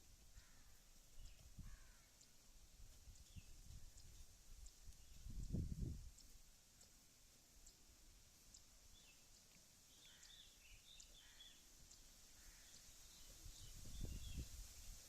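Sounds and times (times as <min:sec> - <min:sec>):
faint bird chirps: 0:00.0 - 0:02.5, 0:03.1 - 0:15.0.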